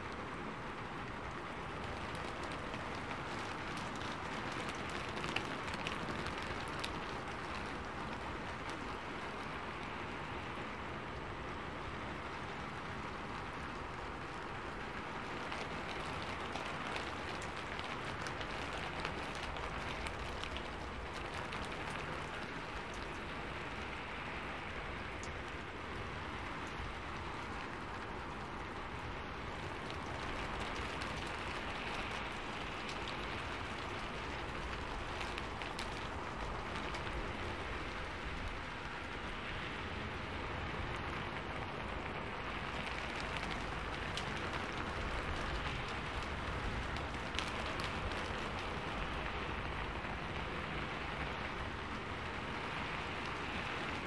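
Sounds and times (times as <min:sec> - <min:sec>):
raindrops ticking on surfaces: 0:00.0 - 0:54.0
steady rain falling: 0:00.0 - 0:54.0.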